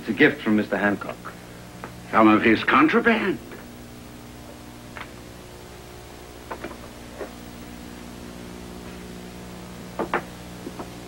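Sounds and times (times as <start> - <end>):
film soundtrack hum and hiss: 0.0 - 11.0.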